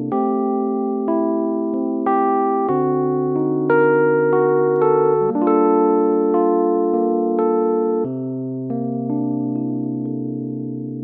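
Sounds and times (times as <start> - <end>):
slow held keyboard chords: 0.0 - 11.0.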